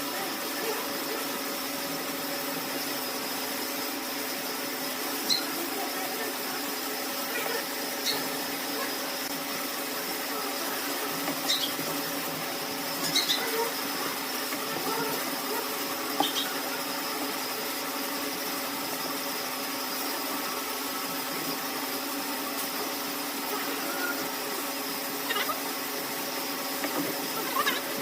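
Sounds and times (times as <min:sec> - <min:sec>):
lathe running: 0:00.0 - 0:28.0.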